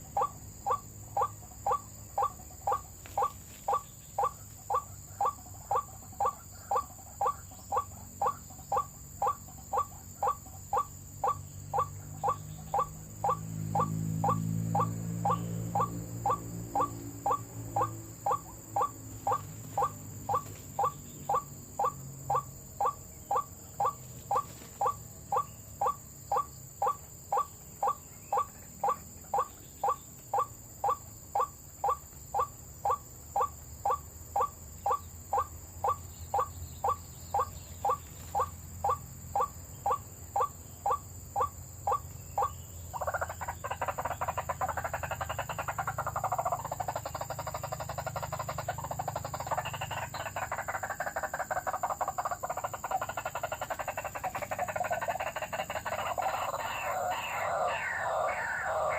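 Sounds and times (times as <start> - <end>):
waterhen call: 0.0 - 58.9.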